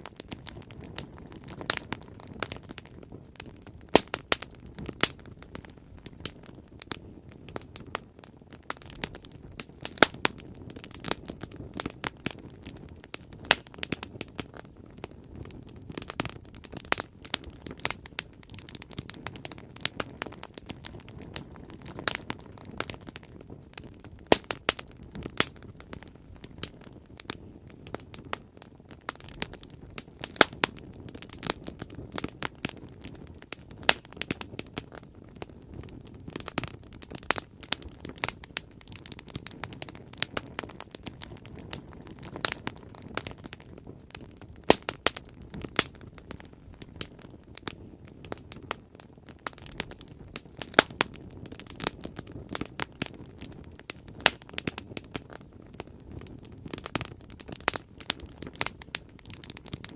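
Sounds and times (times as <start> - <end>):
bonfire crackling and popping: 0.0 - 59.9
low rush of flame: 0.0 - 59.9.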